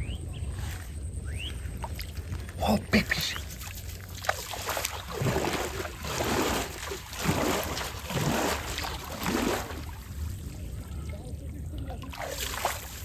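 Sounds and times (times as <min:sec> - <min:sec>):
water splashing and sloshing: 0:00.6 - 0:13.0.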